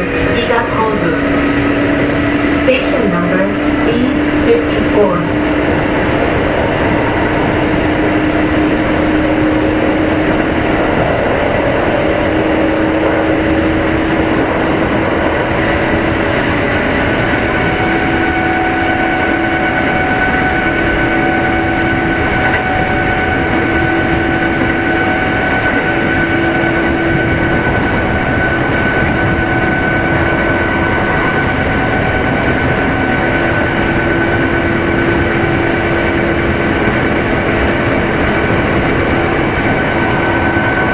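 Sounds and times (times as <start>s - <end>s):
traction motor whine: 0.0s - 40.9s
train wheels rumbling on rails: 0.0s - 40.9s.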